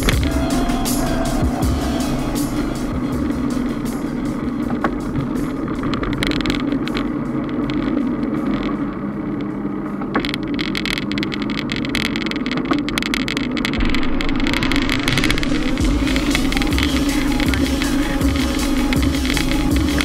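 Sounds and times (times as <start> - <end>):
tyre and wind noise: 0.0 - 20.0
bike clicks and rattles: 3.2 - 20.0.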